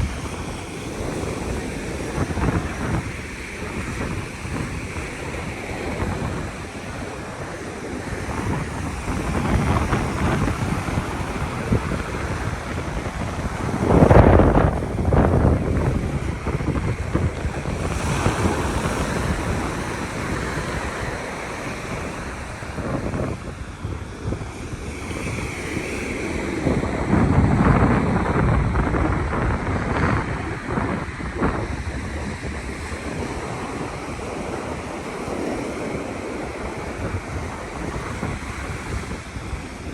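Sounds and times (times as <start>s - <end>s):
ocean surf washing on beach: 0.0s - 39.9s
wind buffeting microphone: 0.0s - 39.9s.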